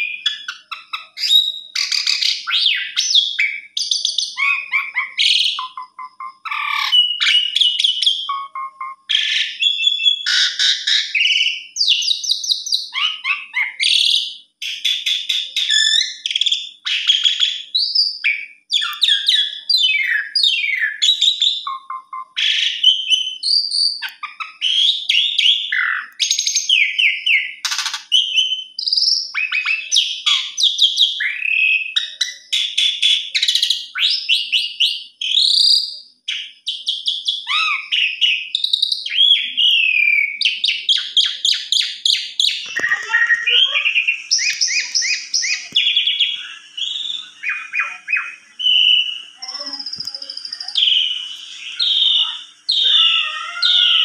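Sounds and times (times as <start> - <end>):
starling singing: 0.0 - 54.0.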